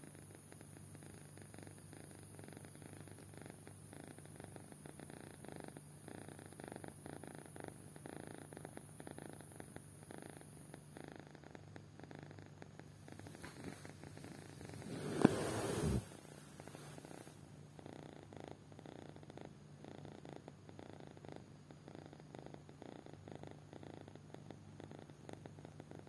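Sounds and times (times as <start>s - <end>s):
kitten snoring softly: 0.0s - 26.0s.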